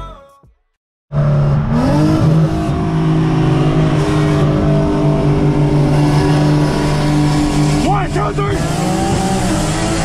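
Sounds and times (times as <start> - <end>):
car engine cruising: 1.1 - 10.0
tyre and road noise: 1.1 - 10.0.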